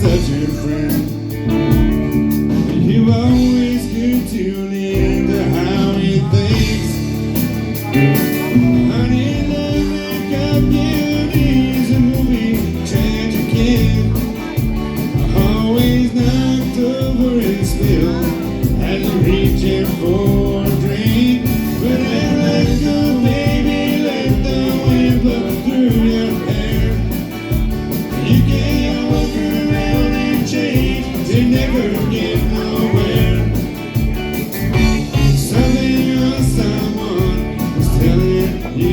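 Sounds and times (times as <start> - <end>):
country band playing: 0.0 - 38.9
person singing: 0.0 - 38.9.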